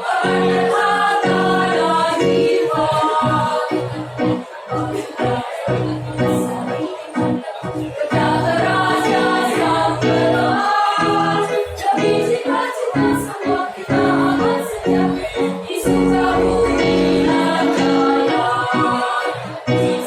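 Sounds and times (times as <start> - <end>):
choir singing in harmony: 0.0 - 20.0.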